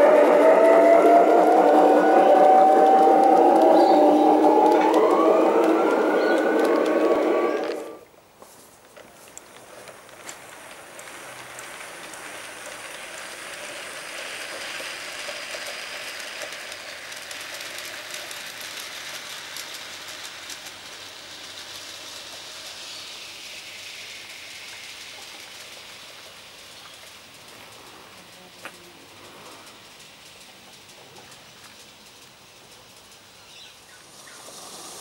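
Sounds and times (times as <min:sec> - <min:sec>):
model train wheels rolling on rails: 0:00.0 - 0:35.0.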